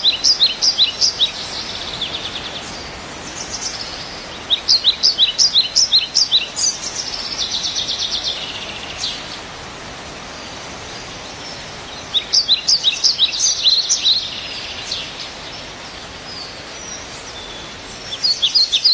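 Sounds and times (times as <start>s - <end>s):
birds chirping and trilling: 0.0s - 18.9s
outdoor background noise: 0.0s - 18.9s.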